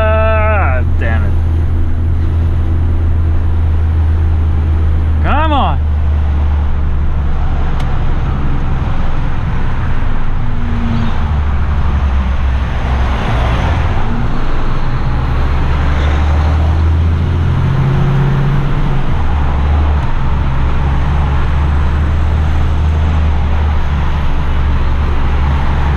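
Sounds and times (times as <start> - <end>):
road noise: 0.0 - 25.9
truck diesel engine droning: 0.0 - 25.9.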